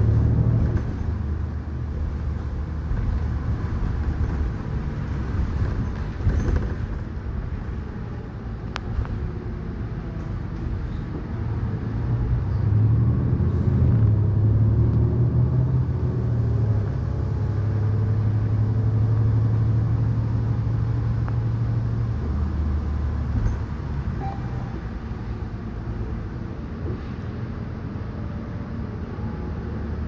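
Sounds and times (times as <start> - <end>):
bus engine droning: 0.0 - 30.0.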